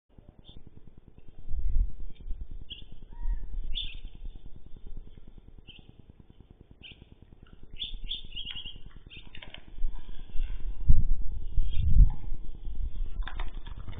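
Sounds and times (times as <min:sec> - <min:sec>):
birds chirping: 0:00.1 - 0:13.0
low rumble: 0:00.5 - 0:13.9.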